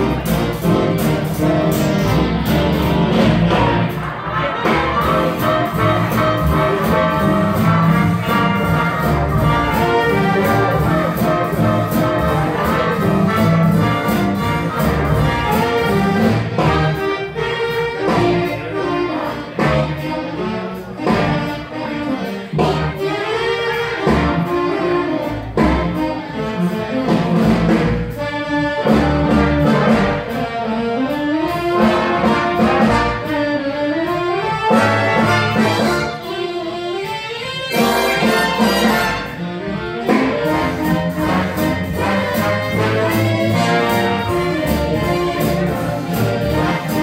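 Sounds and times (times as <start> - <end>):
big band playing jazz: 0.0 - 47.0.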